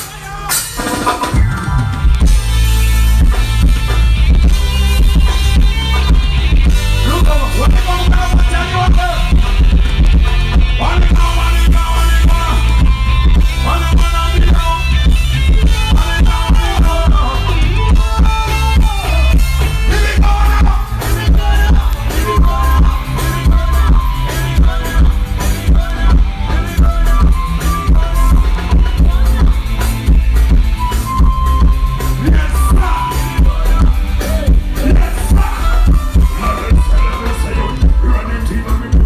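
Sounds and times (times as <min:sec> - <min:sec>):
drum kit beat: 0:00.0 - 0:39.0
heavy bass: 0:00.0 - 0:39.0
live band music over loudspeakers: 0:00.0 - 0:39.0.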